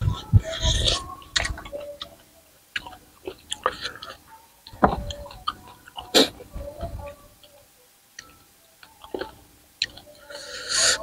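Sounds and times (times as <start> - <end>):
crunchy chewing with mouth clicks: 0.0 - 11.0.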